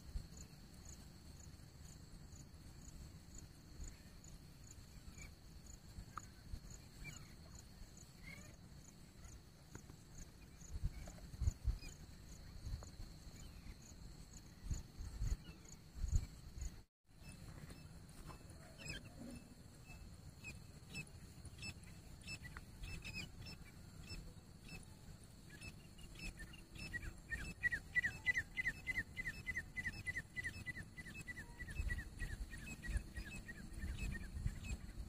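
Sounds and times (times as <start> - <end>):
steady high-pitched hum: 0.0 - 35.0.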